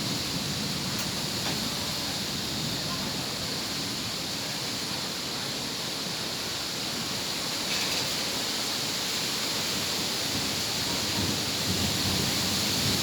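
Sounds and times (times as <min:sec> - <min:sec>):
wind rushing through trees: 0:00.0 - 0:13.0.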